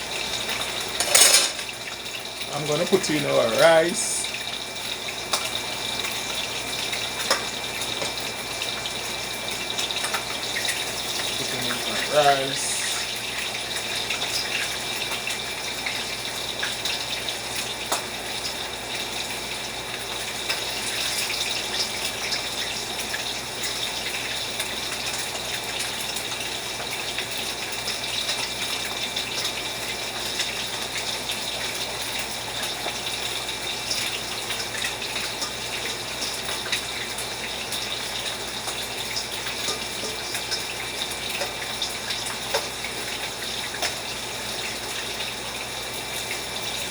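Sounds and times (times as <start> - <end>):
food sizzling on a stove: 0.0 - 46.9.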